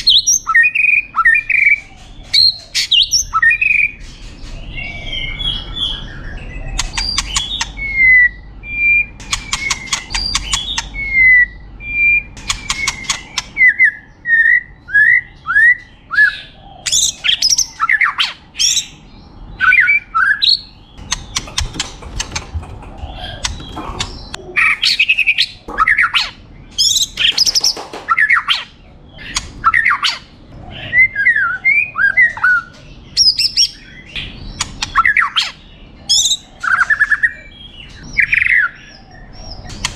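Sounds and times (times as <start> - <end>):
songbird singing trills and whistles: 0.0 - 22.0, 23.0 - 39.9.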